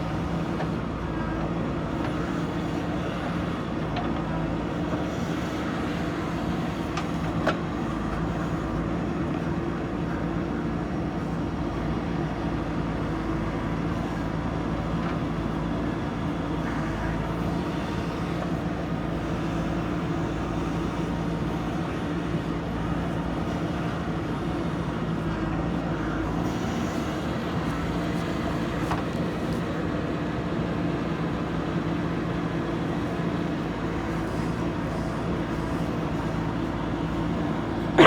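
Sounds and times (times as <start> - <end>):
diesel engine running under load: 0.0 - 38.0.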